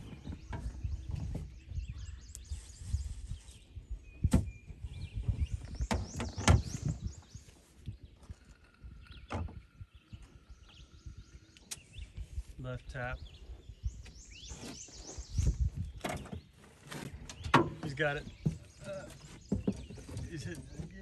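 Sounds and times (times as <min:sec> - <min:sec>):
birds chirping: 0:00.0 - 0:21.0
low wind rumble: 0:00.0 - 0:21.0.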